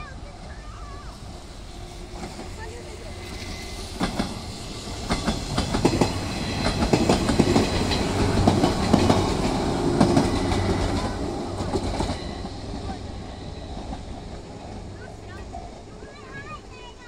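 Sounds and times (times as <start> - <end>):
train rumble: 0.0 - 17.0
train wheels clattering: 0.4 - 17.0.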